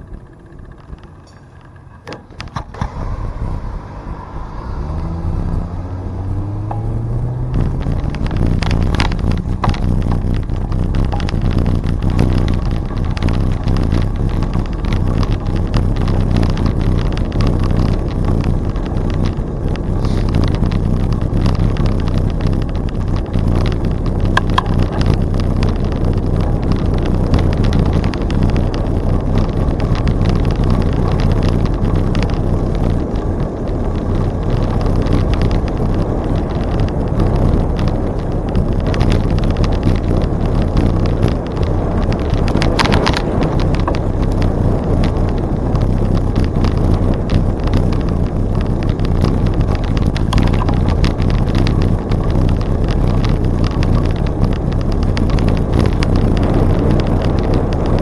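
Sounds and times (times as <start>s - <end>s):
small clicks and rattles: 0.0s - 3.8s, 5.1s - 58.0s
bicycle tyre rumble: 0.0s - 58.0s
wind on microphone: 0.0s - 58.0s.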